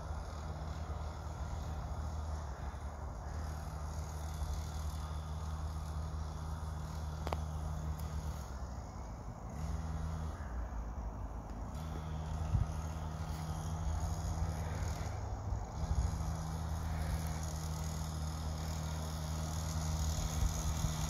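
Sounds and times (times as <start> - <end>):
dirt bike engine humming: 0.0 - 21.0
insects chirping: 0.0 - 21.0.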